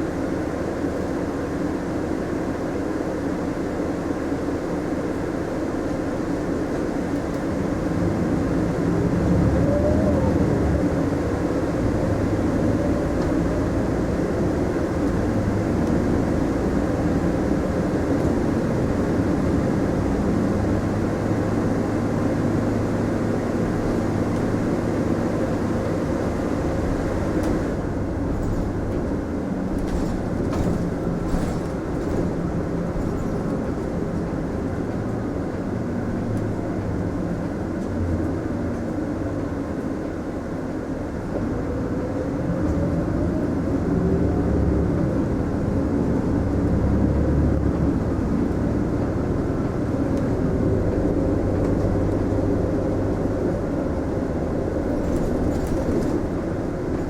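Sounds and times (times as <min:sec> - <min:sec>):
bus engine hum: 0:00.0 - 0:57.0
road and tyre noise: 0:00.0 - 0:57.0.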